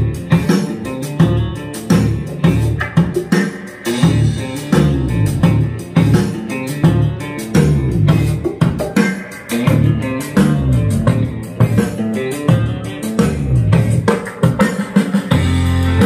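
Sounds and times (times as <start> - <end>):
music with guitar bass and drums: 0.0 - 16.0.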